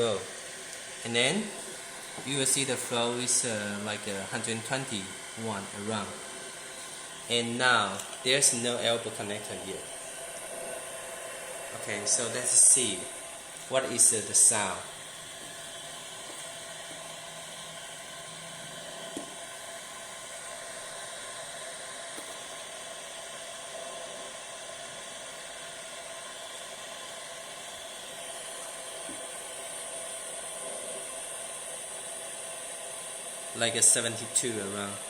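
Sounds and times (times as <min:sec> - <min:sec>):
air rushing from outlet: 0:00.0 - 0:35.0
breathing machine blower hissing: 0:00.0 - 0:35.0.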